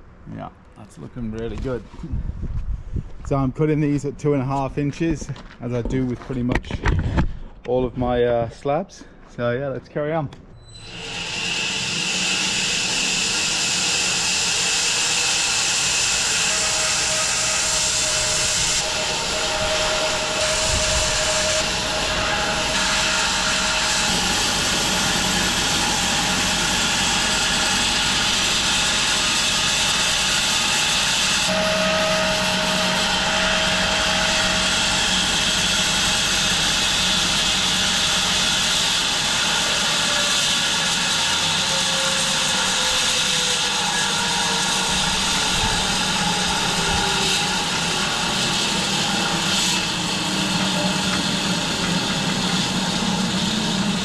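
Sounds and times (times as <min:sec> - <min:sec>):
bandsaw mill sawing log: 0:10.8 - 0:54.0.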